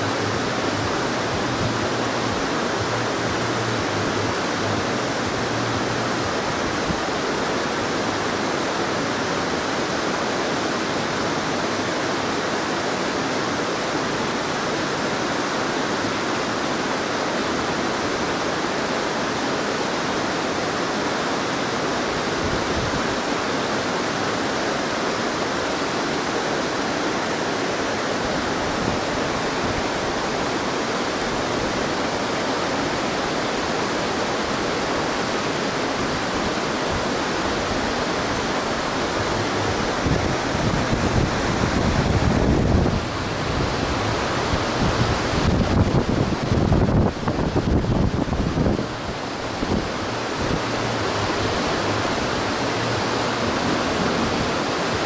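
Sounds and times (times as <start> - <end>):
water rushing through a dam: 0.0 - 55.0.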